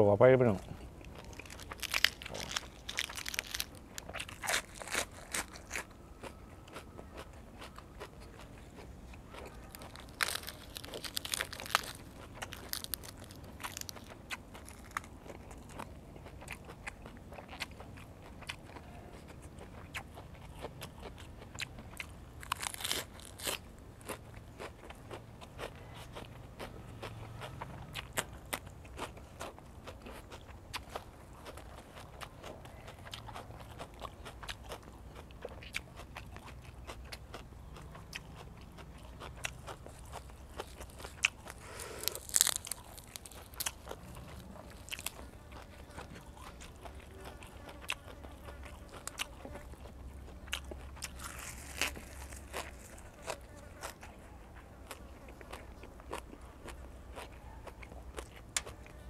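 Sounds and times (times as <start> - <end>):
crunching raw vegetables: 0.0 - 59.0.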